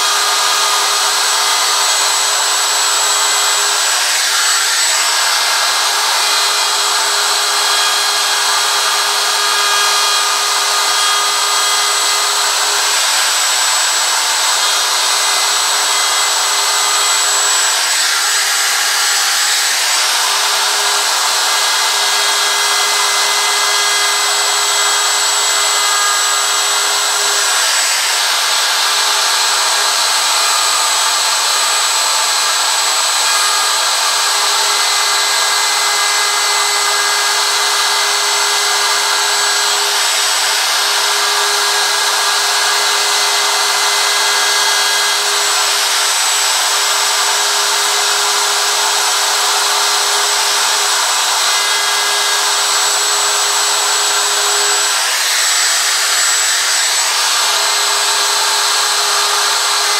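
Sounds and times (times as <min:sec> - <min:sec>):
router cutting wood: 0:00.0 - 0:59.9
router motor whine: 0:00.0 - 0:59.9.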